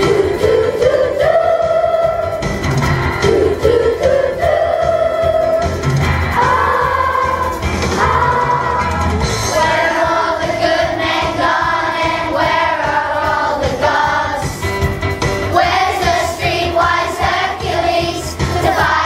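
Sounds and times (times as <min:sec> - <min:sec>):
group singing over a beat: 0:00.0 - 0:02.6, 0:03.2 - 0:14.7, 0:15.5 - 0:19.0.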